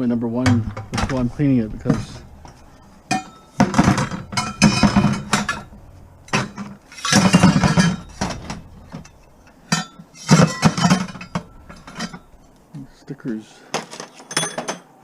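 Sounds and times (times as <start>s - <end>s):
scrap metal clanking: 0.4s - 12.6s.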